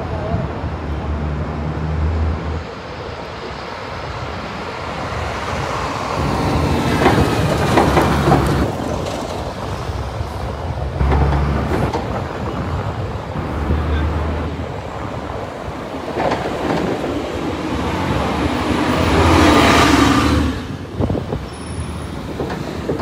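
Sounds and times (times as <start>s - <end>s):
heavy truck engine rumbling: 0.0s - 23.0s
passing vehicles: 0.0s - 23.0s.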